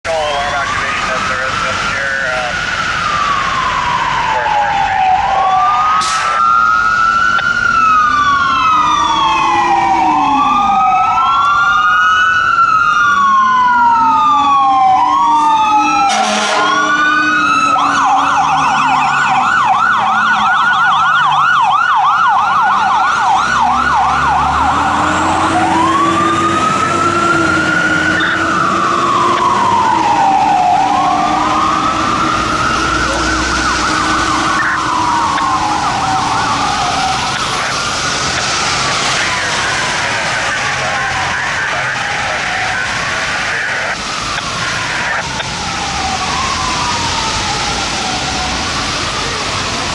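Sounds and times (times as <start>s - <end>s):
fire engine siren wail and yelp: 0.0s - 49.9s
lower slower siren tone: 0.2s - 49.9s.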